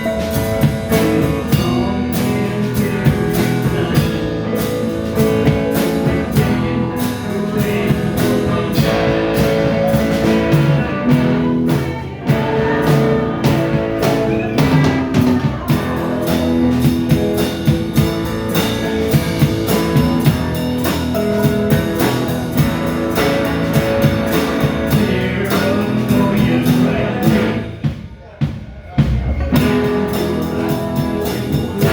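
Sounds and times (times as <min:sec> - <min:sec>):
drum kit beat: 0:00.0 - 0:31.9
guitars: 0:00.0 - 0:31.9.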